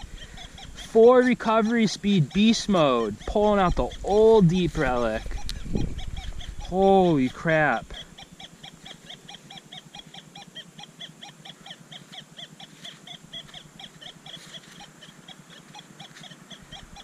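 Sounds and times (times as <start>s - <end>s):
metal detector beeping rapidly: 0.0s - 17.0s.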